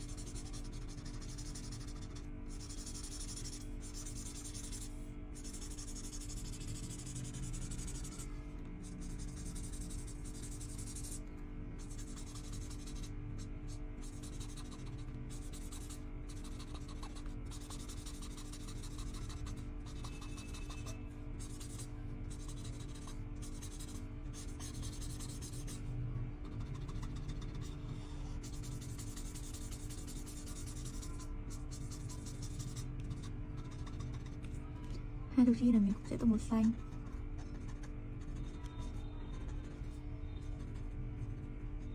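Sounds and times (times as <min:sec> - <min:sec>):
marker scratching across paper: 0:00.0 - 0:11.2, 0:11.8 - 0:34.7, 0:36.1 - 0:41.9.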